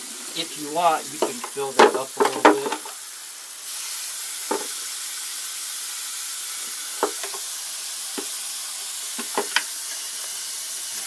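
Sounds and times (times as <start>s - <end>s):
water running with a hiss: 0.0s - 11.0s.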